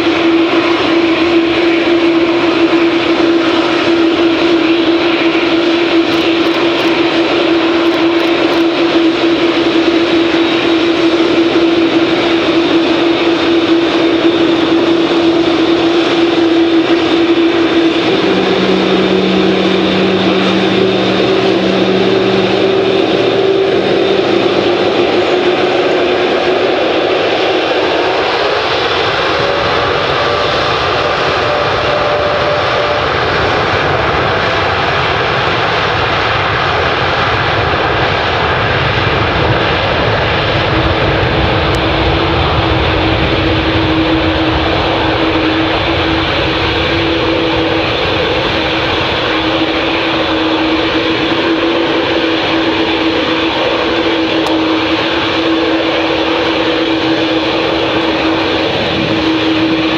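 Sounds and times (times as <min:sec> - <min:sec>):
deep rumble: 0:00.0 - 0:59.9
jet engines at takeoff power: 0:00.0 - 0:59.9.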